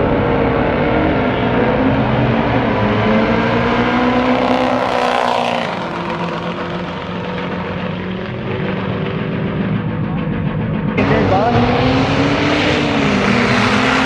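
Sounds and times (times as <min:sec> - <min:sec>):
truck engine at full throttle: 0:00.0 - 0:14.0.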